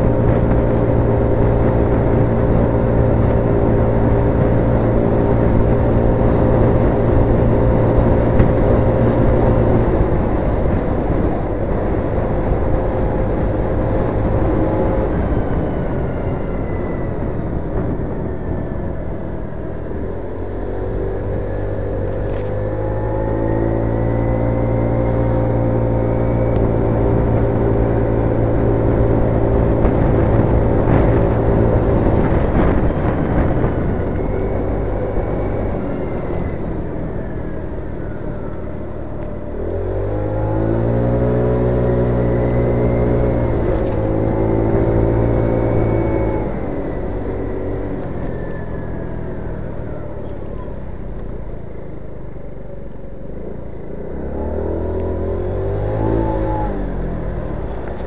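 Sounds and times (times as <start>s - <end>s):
road noise: 0.0s - 58.0s
scooter engine running: 0.0s - 58.0s.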